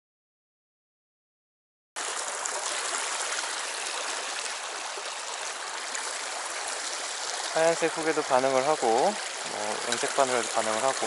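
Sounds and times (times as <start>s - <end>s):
stream running over stones: 2.0s - 11.0s.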